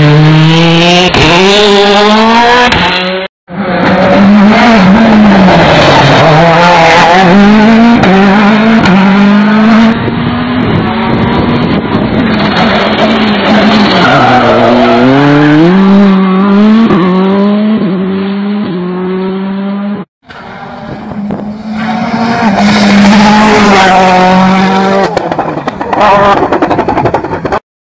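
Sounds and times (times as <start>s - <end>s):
rally car engine at full throttle: 0.0s - 27.6s.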